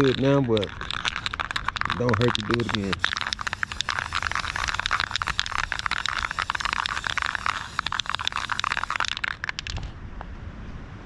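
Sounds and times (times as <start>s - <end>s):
aerosol spray can hissing: 0.0s - 9.7s.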